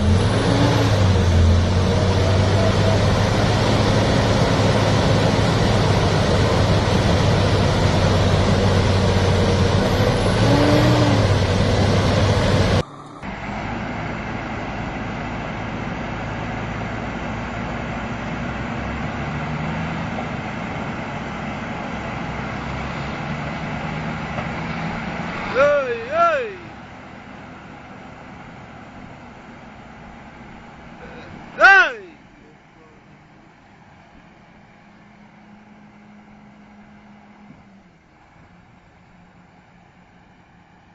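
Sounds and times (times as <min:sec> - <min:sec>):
heavy vehicle engine running: 0:00.0 - 0:40.9.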